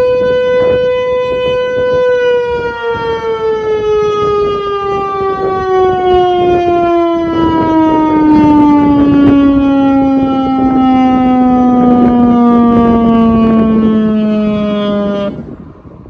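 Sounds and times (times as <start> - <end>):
warning siren falling in pitch: 0.0 - 16.0.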